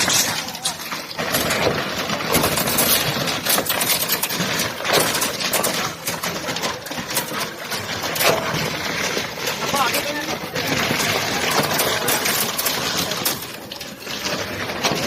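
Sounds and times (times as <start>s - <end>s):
concrete pump engine: 0.0s - 15.0s.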